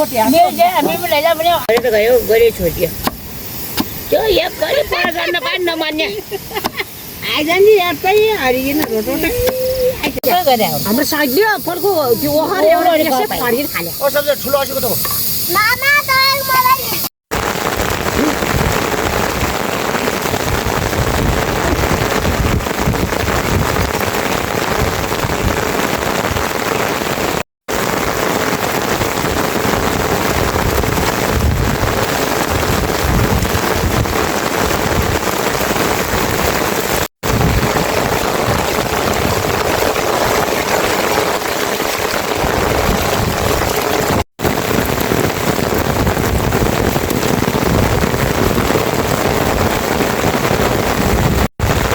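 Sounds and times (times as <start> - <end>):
heavy rain hissing: 0.0 - 51.9.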